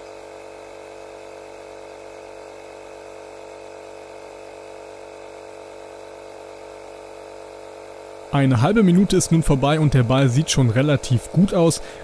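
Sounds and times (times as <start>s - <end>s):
air compressor running: 0.0s - 12.0s.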